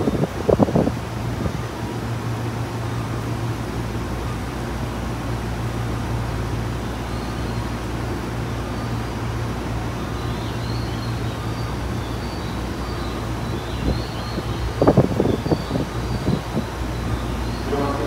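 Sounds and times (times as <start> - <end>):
train car hum and rumble: 0.0 - 18.0.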